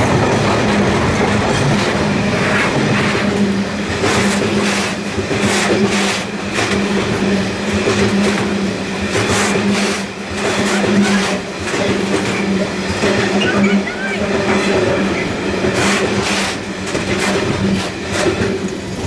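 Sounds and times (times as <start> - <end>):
train wheels clattering over rail joints: 0.0 - 19.0.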